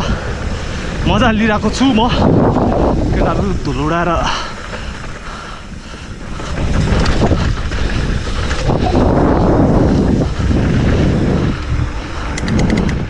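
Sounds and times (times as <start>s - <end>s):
wind buffeting microphone: 0.0s - 13.0s
bike tyres rattling on dirt: 0.1s - 13.0s.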